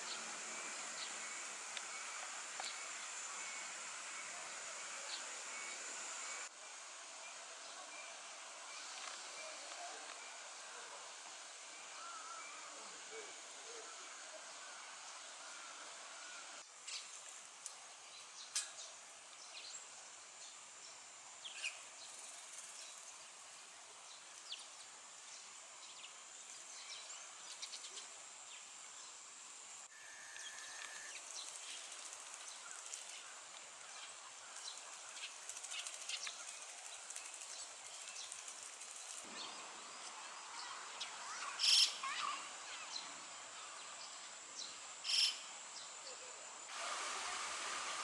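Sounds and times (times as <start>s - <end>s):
insect drone: 0.0s - 17.4s, 19.5s - 48.0s.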